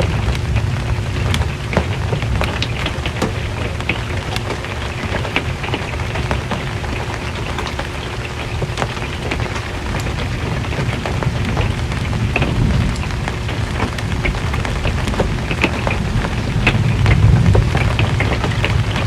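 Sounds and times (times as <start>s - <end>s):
rain drumming on metal roof: 0.0s - 19.0s.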